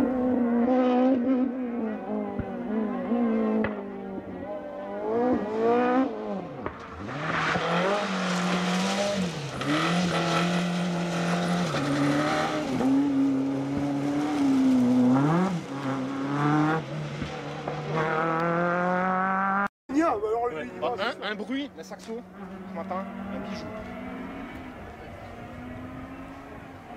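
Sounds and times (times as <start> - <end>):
rally car engine revving past: 0.0 - 19.7, 22.2 - 26.9.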